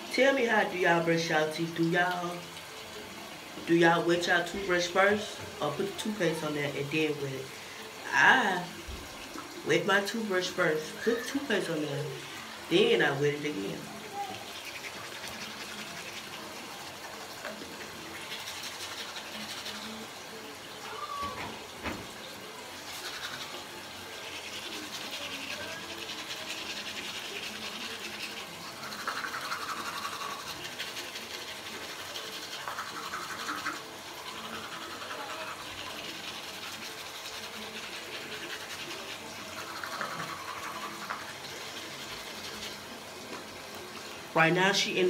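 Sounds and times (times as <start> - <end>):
toothbrush scrubbing teeth: 0.0 - 22.0, 22.7 - 45.0.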